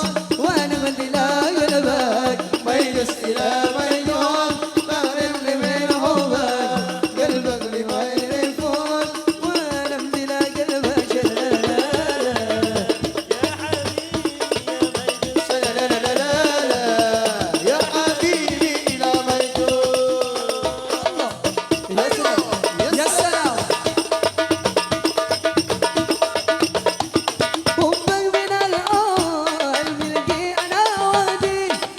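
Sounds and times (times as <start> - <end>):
steady percussion rhythm: 0.0 - 31.9.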